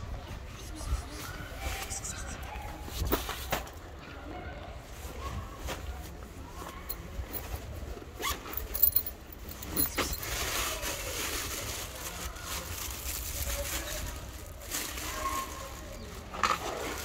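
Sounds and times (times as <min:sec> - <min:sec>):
faint voices: 0:00.0 - 0:17.0.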